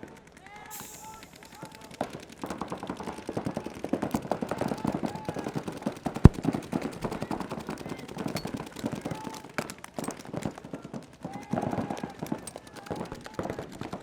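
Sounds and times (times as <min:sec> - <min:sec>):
paintball markers firing rapidly: 0:00.1 - 0:14.0.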